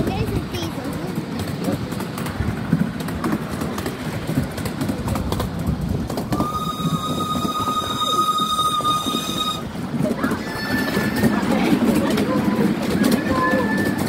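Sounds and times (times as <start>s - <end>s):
miniature steam train rumbling: 0.0s - 14.0s
wheels clicking over rails: 0.0s - 14.0s.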